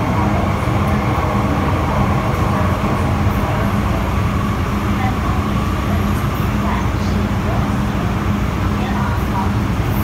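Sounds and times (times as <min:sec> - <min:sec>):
constant low hum: 0:00.0 - 0:10.0
train wheels rumbling on rail: 0:00.0 - 0:10.0.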